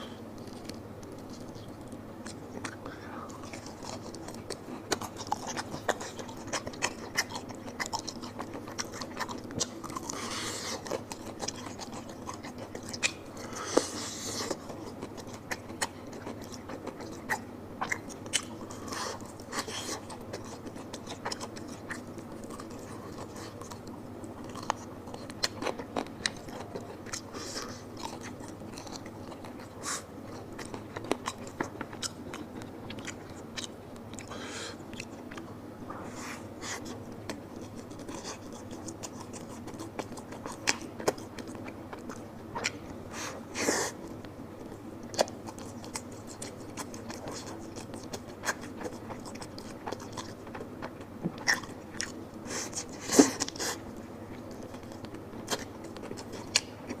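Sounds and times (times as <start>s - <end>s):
chewing crunchy chicken wings: 0.0s - 57.0s.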